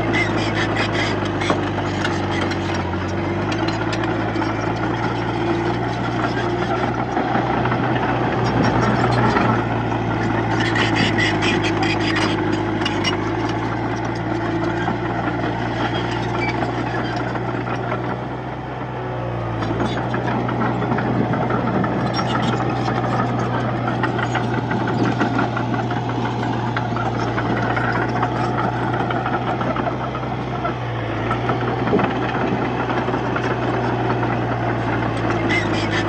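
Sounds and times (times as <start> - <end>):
steel tracks clanking and squealing: 0.0 - 18.1, 19.6 - 30.0, 31.2 - 36.0
bulldozer diesel engine running: 0.0 - 36.0.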